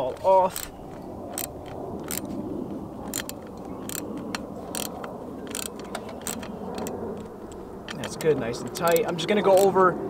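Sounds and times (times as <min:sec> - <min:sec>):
ratchet wrench clicking: 0:00.0 - 0:02.3, 0:03.1 - 0:09.8.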